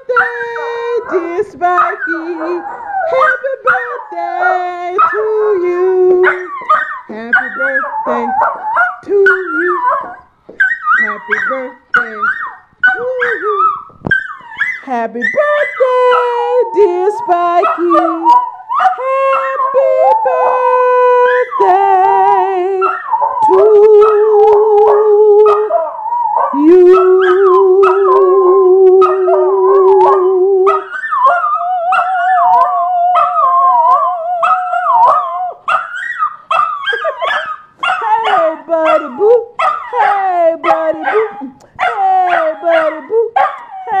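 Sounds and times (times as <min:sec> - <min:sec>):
dog howling and yipping: 0:00.0 - 0:44.0.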